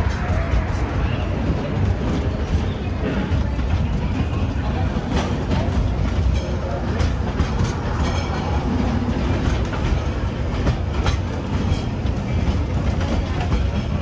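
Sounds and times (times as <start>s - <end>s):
steam train rumbling: 0.0s - 14.0s
wheels clicking on rails: 0.0s - 14.0s.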